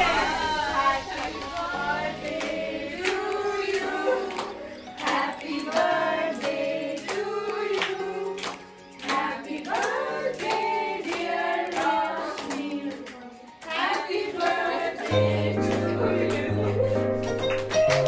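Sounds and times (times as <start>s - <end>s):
voices singing together: 0.0s - 17.2s
rhythmic hand clapping: 0.0s - 18.0s.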